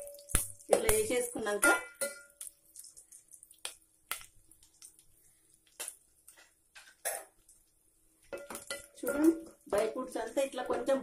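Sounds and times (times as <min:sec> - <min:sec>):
nuts frying in hot ghee: 0:00.0 - 0:11.0.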